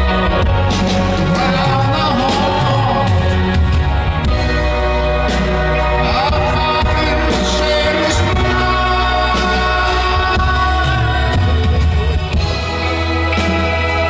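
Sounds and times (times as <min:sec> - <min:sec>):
rock band and orchestra playing: 0:00.0 - 0:14.0.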